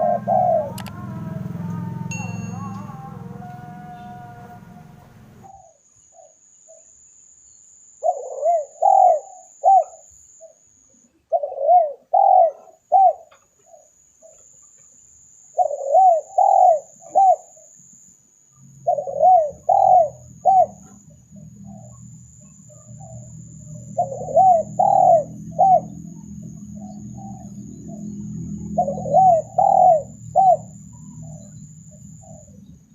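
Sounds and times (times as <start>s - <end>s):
dove cooing: 0.0s - 6.8s, 8.0s - 10.6s, 11.3s - 14.5s, 15.6s - 17.6s, 18.8s - 32.7s.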